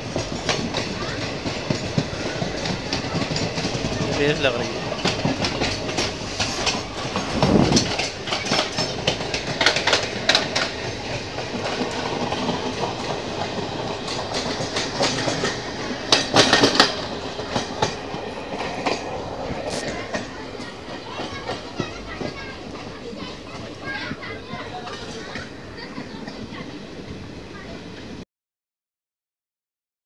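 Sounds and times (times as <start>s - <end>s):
steady rush of train noise: 0.0s - 28.2s
steel wheels clattering over rail joints: 0.0s - 28.2s.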